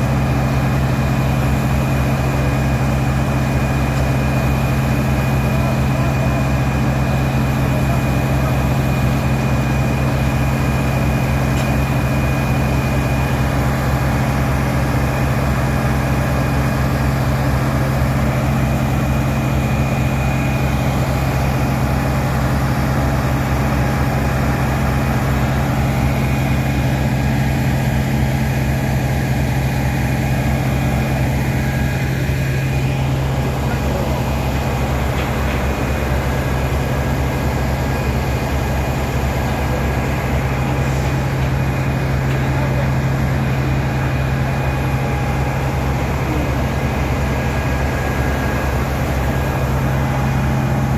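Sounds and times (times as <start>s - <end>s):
large engine droning: 0.0s - 50.9s.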